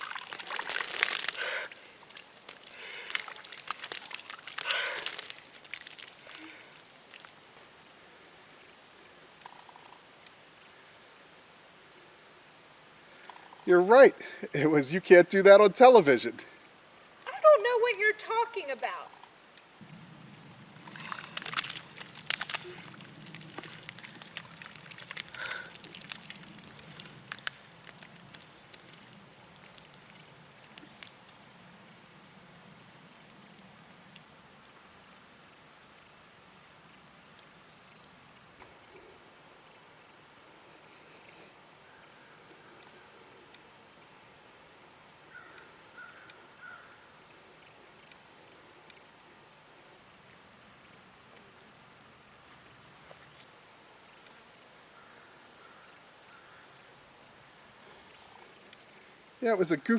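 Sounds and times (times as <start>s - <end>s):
high insect whine: 0.0s - 13.8s, 19.1s - 59.9s
cricket chirping: 0.0s - 59.9s.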